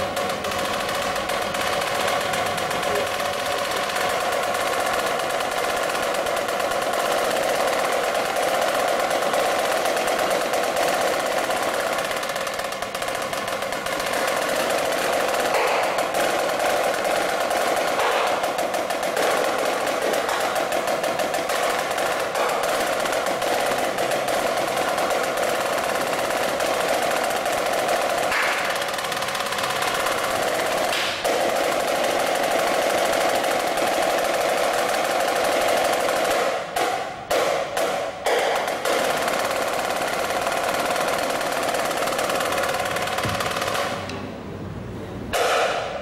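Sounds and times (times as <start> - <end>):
marching snare drum: 0.0 - 44.0.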